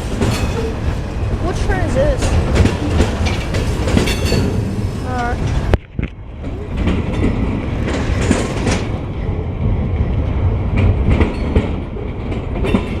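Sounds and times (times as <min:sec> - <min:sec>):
freight train rumbling past: 0:00.0 - 0:13.0
train wheels clicking over rail joints: 0:00.0 - 0:13.0.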